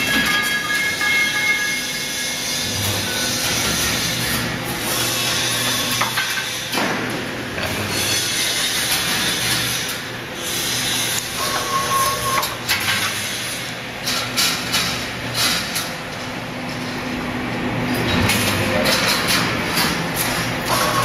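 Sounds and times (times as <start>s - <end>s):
welding machine hum: 0.0s - 21.0s.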